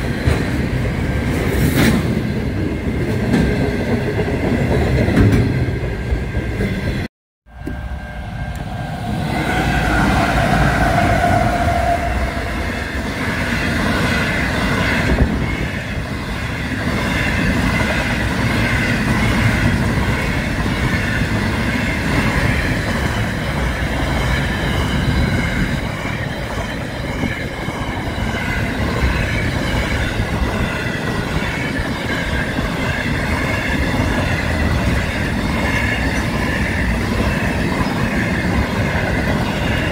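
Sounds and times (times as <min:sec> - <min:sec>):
freight train rumbling and clattering: 0:00.0 - 0:39.9.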